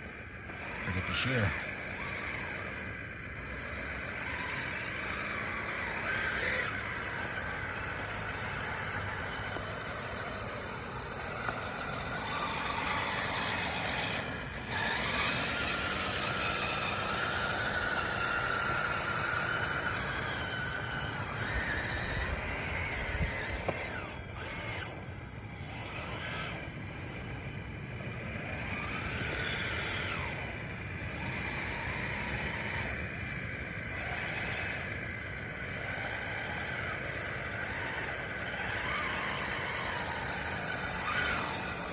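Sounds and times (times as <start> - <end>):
toy bulldozer motors whining: 0.0 - 41.9.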